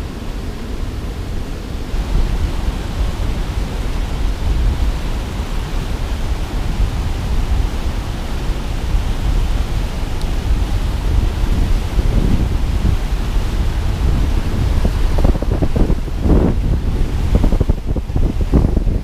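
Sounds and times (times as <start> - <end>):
turbulent water rushing: 0.0 - 19.0
wind rumbling on microphone: 0.0 - 19.0.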